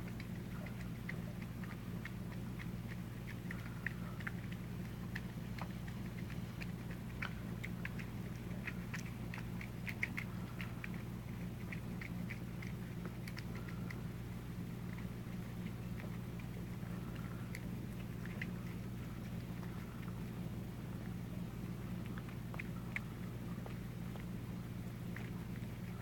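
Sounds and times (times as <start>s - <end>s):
cats eating wet food: 0.0s - 26.0s.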